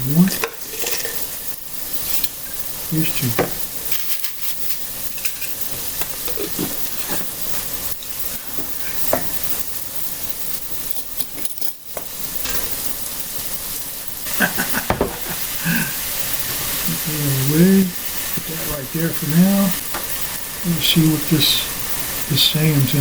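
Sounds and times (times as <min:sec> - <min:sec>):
food sizzling in a skillet: 0:00.0 - 0:23.0
utensil scraping a skillet: 0:00.0 - 0:23.0.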